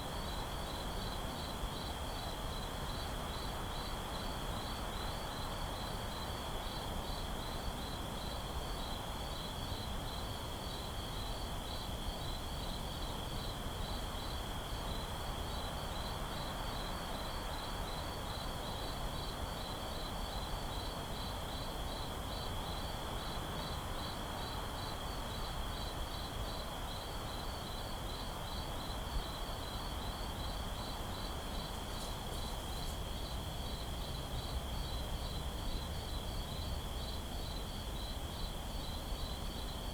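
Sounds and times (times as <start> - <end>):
low steady hiss: 0.0 - 39.9
fast cricket chirps: 0.1 - 39.9.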